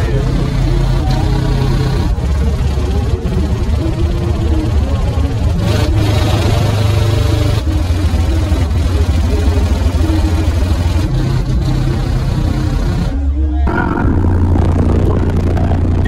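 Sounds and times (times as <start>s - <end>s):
deep bass notes from subwoofers: 0.0s - 16.0s.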